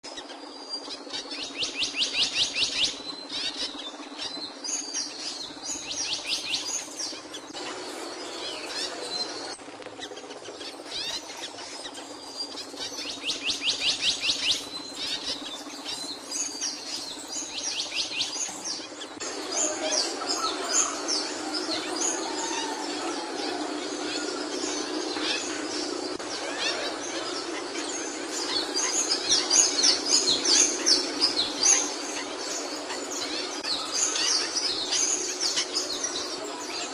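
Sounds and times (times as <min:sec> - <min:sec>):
songbird singing rapid trills: 0:00.1 - 0:36.9.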